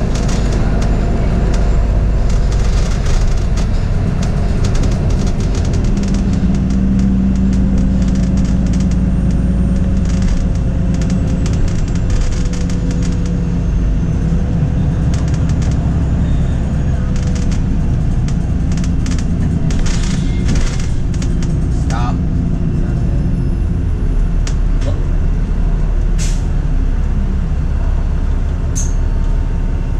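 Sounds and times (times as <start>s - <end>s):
interior clicking and rattling: 0.0s - 23.1s, 24.2s - 25.2s
bus engine and road rumble: 0.0s - 29.9s.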